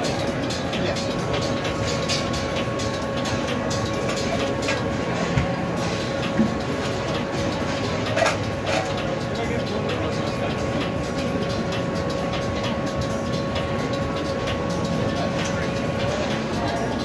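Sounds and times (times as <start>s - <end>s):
rushing kitchen hum: 0.0s - 17.0s
utensils and trays clattering: 0.0s - 17.0s.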